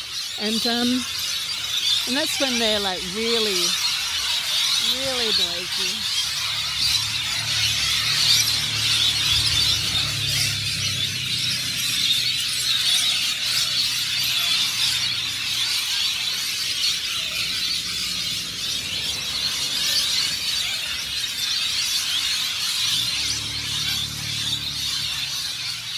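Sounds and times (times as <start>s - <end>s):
flock of birds screeching: 0.0s - 25.9s.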